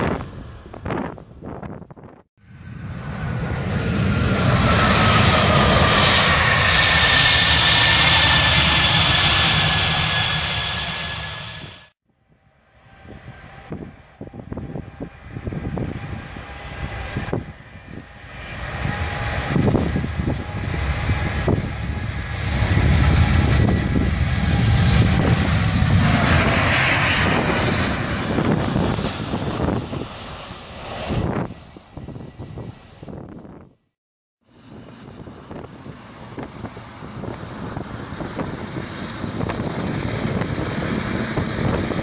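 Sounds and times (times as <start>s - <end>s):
wind buffeting microphone: 0.0s - 11.8s, 12.9s - 33.8s, 34.6s - 42.0s
jet airliner engines roaring: 0.0s - 33.8s, 34.4s - 42.0s.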